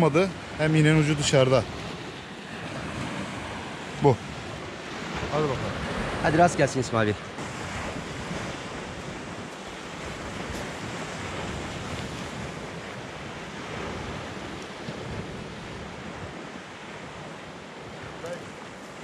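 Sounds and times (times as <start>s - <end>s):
waves washing on shingle beach: 0.0s - 19.0s
wind buffeting microphone: 0.0s - 19.0s.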